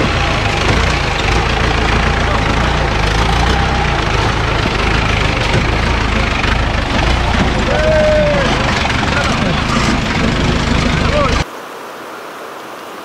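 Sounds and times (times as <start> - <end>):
jeep engine droning: 0.0 - 11.4.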